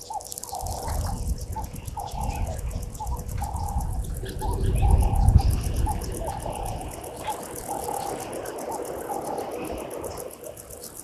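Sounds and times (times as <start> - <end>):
birds calling: 0.0 - 9.2.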